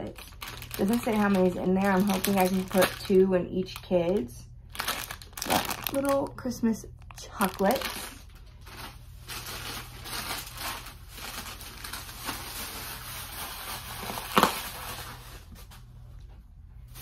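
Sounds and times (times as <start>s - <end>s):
plastic packaging crinkling: 0.0s - 16.1s.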